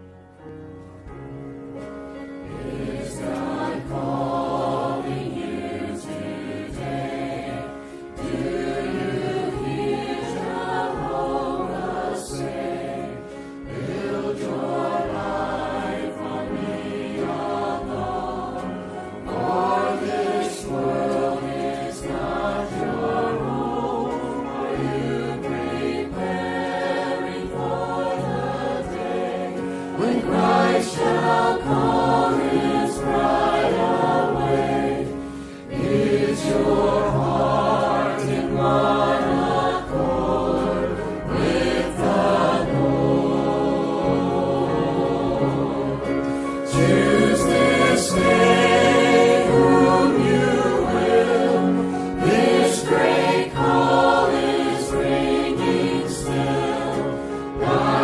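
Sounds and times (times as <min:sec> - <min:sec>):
church choir singing a hymn: 0:00.0 - 0:58.0
instrumental accompaniment: 0:00.0 - 0:58.0.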